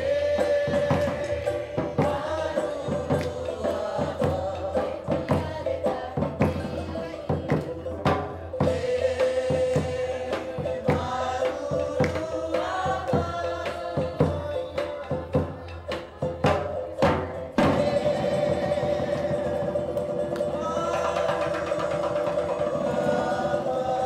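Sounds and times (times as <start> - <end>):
drum strikes: 0.0 - 24.0
group of voices singing: 0.0 - 24.0.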